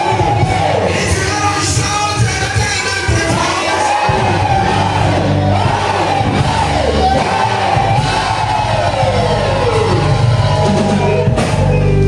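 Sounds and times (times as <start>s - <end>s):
voices singing: 0.0s - 11.9s
church worship music: 0.0s - 12.0s
steady bass notes: 0.0s - 12.0s.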